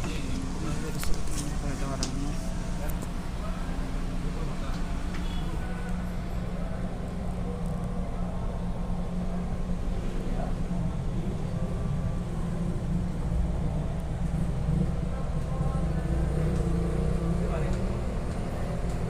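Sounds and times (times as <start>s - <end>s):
train carriage low rumble: 0.0s - 19.0s.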